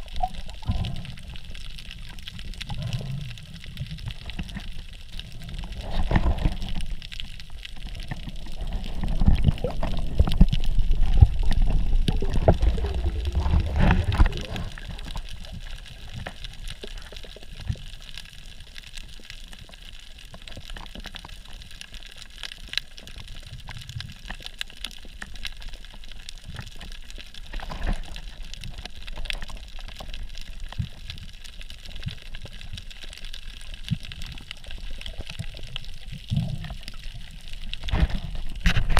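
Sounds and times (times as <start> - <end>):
muffled underwater water movement: 0.0 - 38.9
short clicks and crackles: 0.0 - 38.9.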